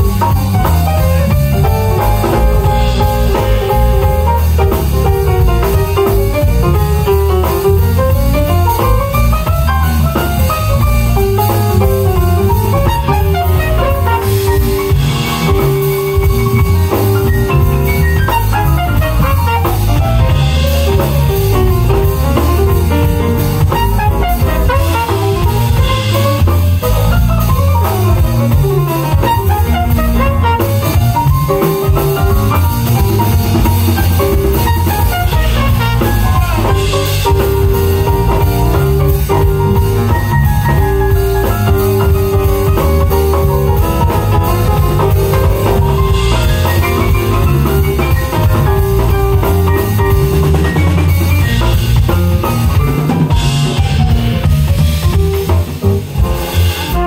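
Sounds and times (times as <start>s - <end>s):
bass: 0.0s - 57.0s
drum kit: 0.0s - 57.0s
keyboard playing quick runs: 0.0s - 57.0s.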